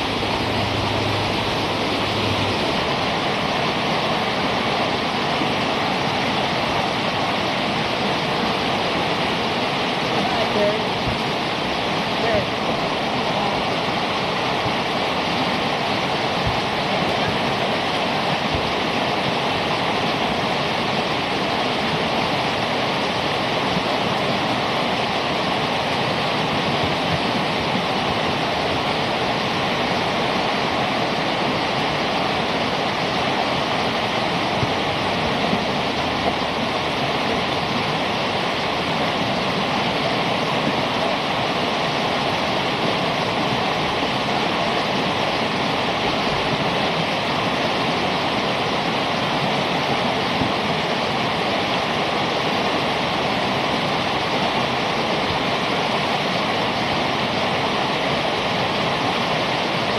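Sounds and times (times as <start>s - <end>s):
whitewater rapids roaring: 0.0s - 59.9s.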